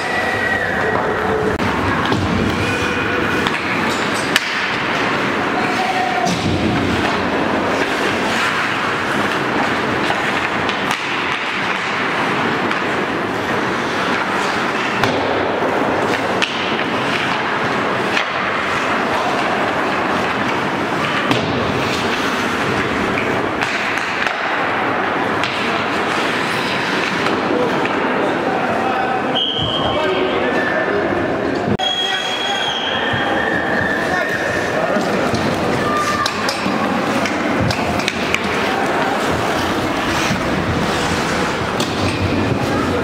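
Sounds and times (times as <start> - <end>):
hockey sticks and puck clacking: 0.0 - 30.6, 31.4 - 43.0
skate blades scraping ice: 1.1 - 28.0, 33.2 - 43.0.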